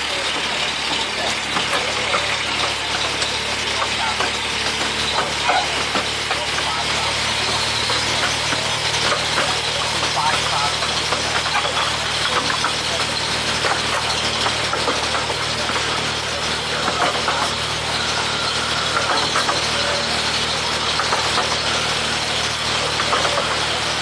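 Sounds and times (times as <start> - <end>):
locomotive engine drone: 0.0 - 24.0
wheels clattering on rails: 0.0 - 24.0.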